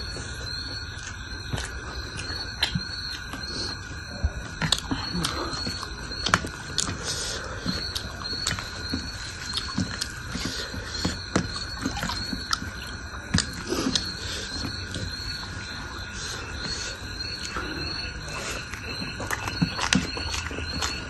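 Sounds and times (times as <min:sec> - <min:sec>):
chewing and mouth smacks: 0:00.1 - 0:21.0.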